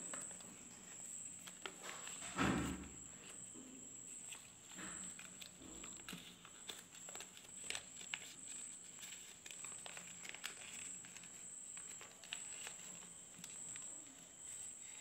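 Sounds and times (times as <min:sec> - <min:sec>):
paper rustling and crinkling: 0:00.0 - 0:03.4, 0:04.1 - 0:15.0
sharp paper crackles: 0:00.1 - 0:02.9, 0:04.2 - 0:15.0.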